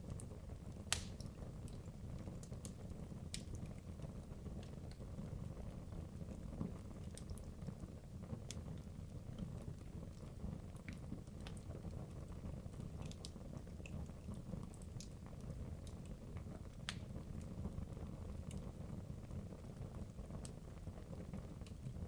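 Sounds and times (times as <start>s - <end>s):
wood crackling and popping: 0.0s - 22.0s.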